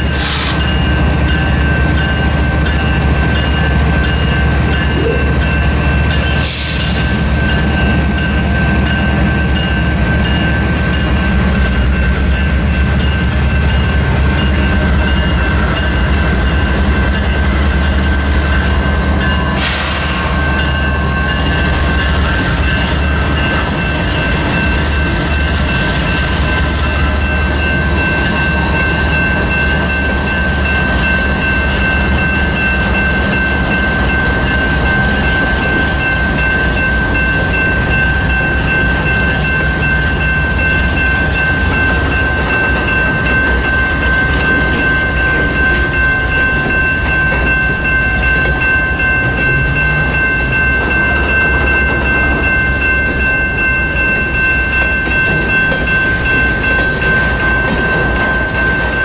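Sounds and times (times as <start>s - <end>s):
diesel locomotives rumbling: 0.0s - 59.0s
high crossing bell ringing: 0.0s - 59.0s.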